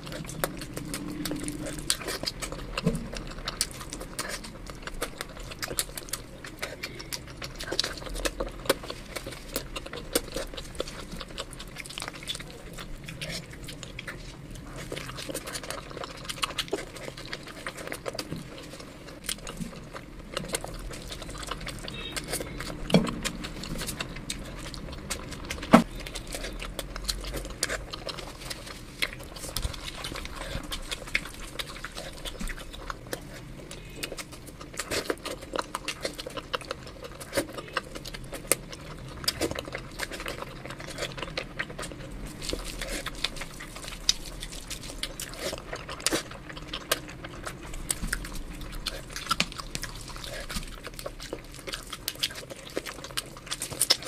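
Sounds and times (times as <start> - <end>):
chewing and mouth smacks: 0.0 - 54.0.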